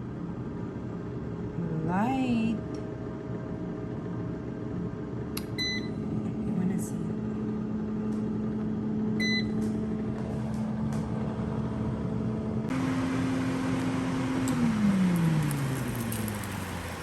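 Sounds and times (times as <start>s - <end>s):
air fryer fan hum: 0.0s - 17.0s.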